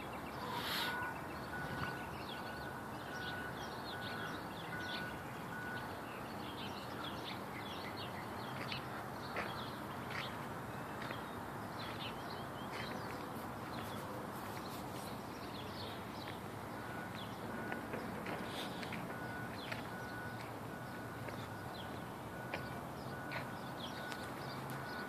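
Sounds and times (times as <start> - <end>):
small birds chirping: 0.0 - 10.4, 11.0 - 17.4, 18.0 - 25.0
outdoor background hum: 0.0 - 25.0.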